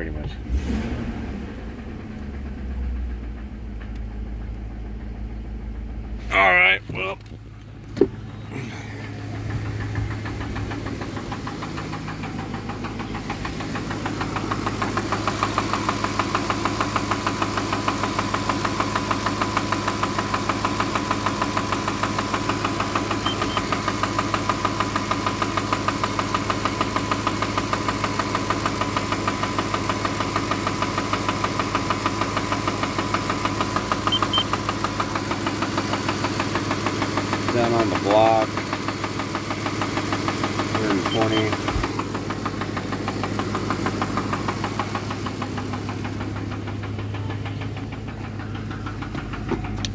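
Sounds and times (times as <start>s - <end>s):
engine idling with rapid knock: 1.4s - 49.9s.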